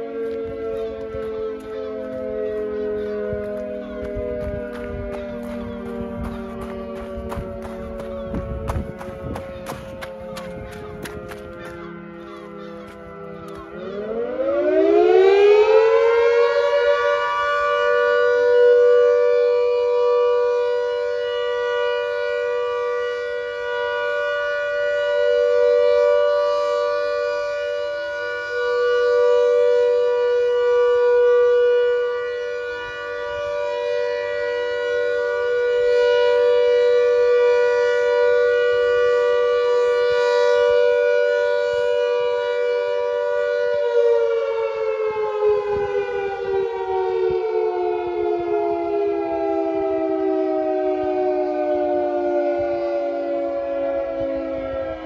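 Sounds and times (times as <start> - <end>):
warning siren winding up: 0.0 - 55.0.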